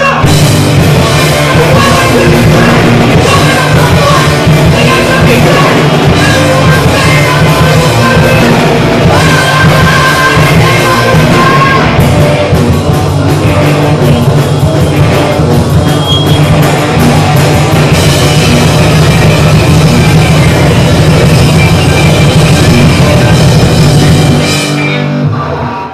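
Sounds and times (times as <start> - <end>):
punk rock band playing: 0.0 - 25.9.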